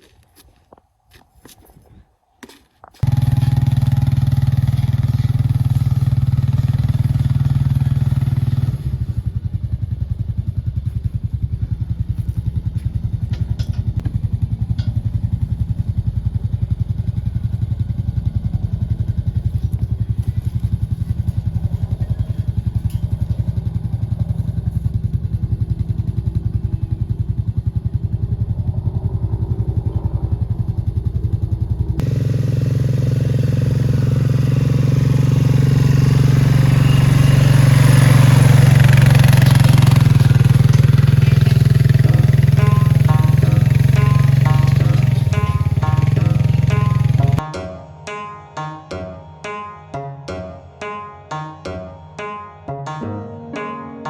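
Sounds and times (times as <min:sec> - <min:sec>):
atv engine running: 0:03.0 - 0:47.4.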